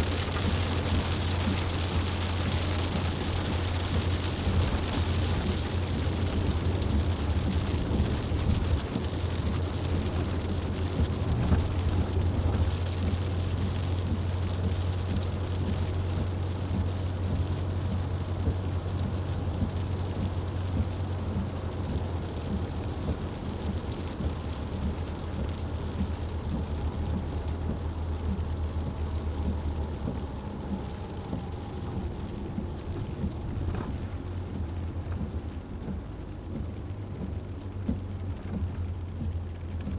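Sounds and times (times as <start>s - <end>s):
car engine drone: 0.0s - 39.9s
rain hiss on wet tyres: 0.0s - 39.9s
road noise: 0.0s - 39.9s.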